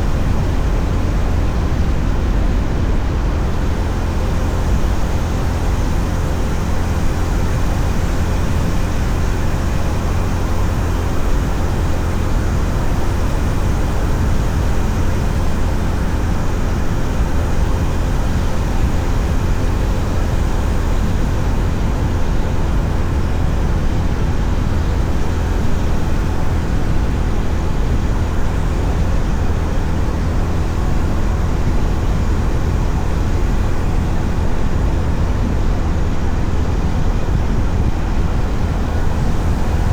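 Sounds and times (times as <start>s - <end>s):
wind rush and road noise: 0.0s - 39.9s.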